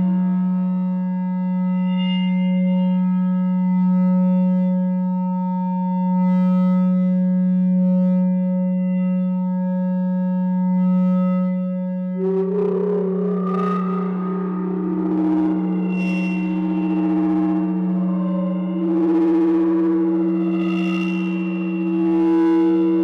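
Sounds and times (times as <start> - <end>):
low electronic feedback drone: 0.0 - 23.0.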